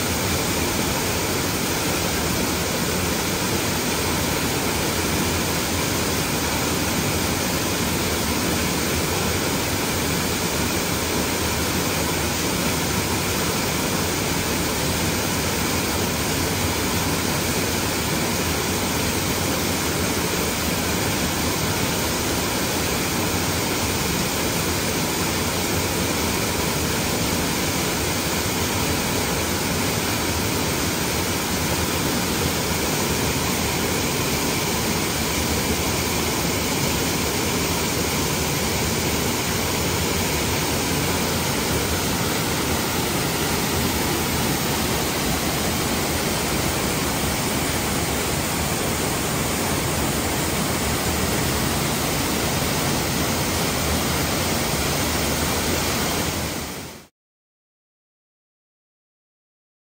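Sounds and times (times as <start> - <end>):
waterfall rushing: 0.0 - 57.1.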